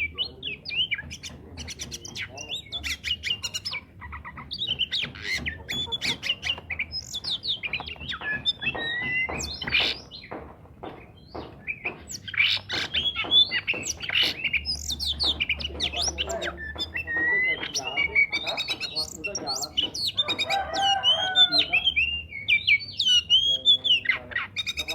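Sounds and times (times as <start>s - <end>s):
bird singing: 0.0s - 24.9s.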